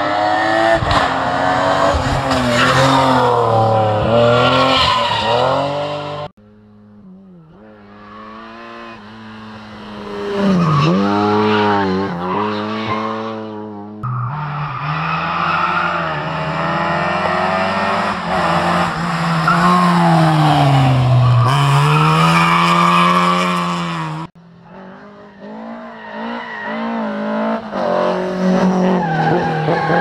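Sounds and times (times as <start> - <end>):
rally car engines revving: 0.0 - 6.4, 7.0 - 30.0
rally car passing at full throttle: 0.0 - 30.0.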